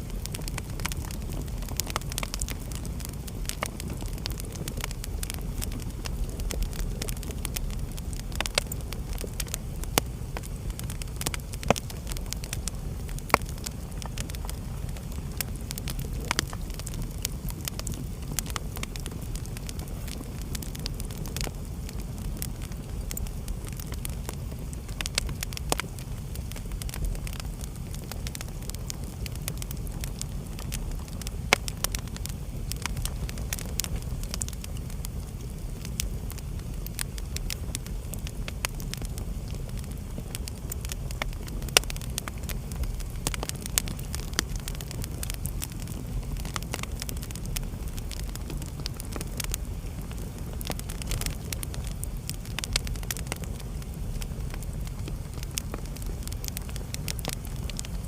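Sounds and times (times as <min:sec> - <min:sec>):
fire crackles and pops: 0:00.0 - 0:58.0
wood fire burning: 0:00.0 - 0:58.0.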